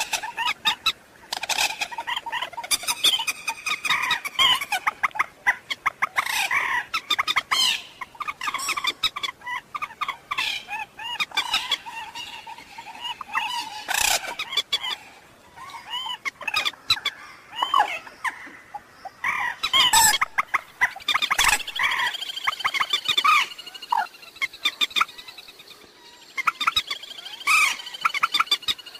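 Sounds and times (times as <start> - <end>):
moorhen calling: 0.0 - 28.9.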